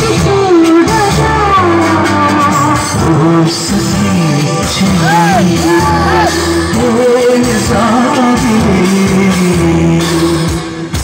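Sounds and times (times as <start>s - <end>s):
loud song with singing: 0.0s - 11.0s.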